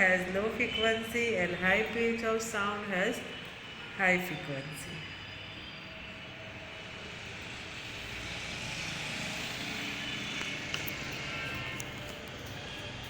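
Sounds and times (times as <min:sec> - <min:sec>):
steady engine-like noise: 0:00.0 - 0:13.0.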